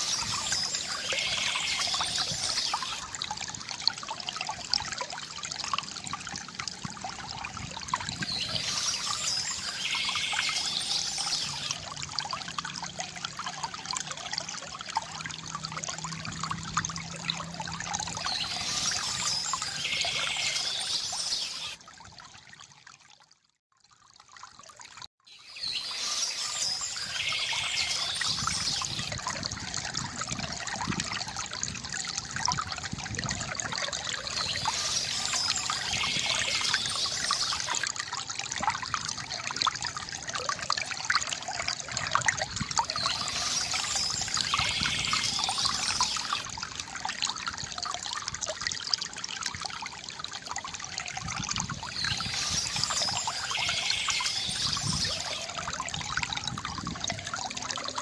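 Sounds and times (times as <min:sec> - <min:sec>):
water trickling from fountain spout: 0:00.0 - 0:58.0.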